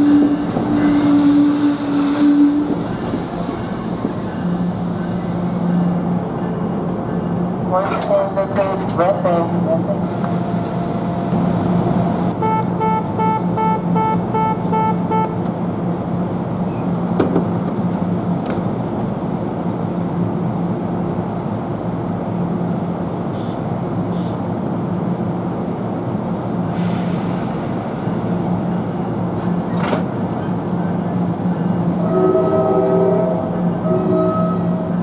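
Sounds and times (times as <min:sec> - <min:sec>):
train humming: 0:00.0 - 0:35.0.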